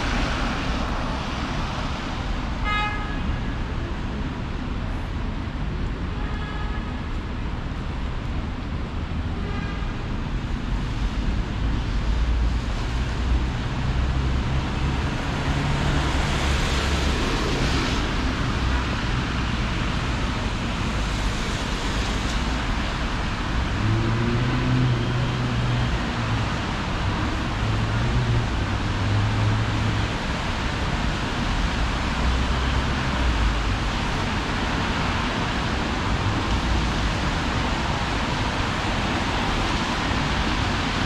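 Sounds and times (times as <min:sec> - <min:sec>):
traffic rumble: 0:00.0 - 0:41.0.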